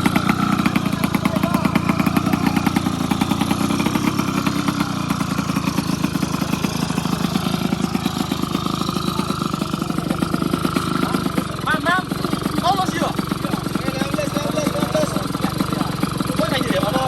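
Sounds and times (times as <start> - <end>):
two-stroke motorcycle engine idling: 0.0 - 17.0.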